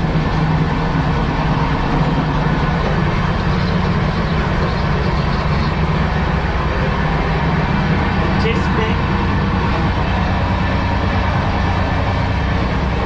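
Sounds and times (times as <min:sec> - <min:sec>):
train coach rumble and hum: 0:00.0 - 0:13.0.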